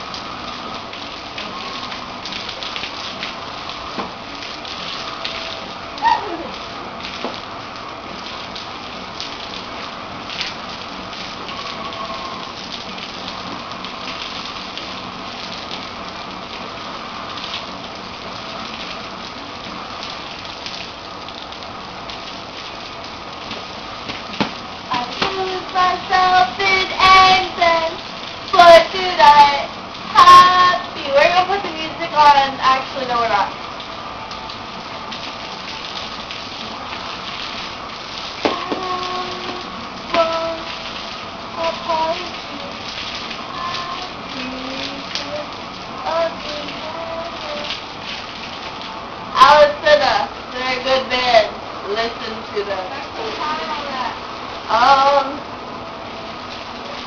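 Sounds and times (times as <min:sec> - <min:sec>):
water spraying: 0:00.0 - 0:57.0.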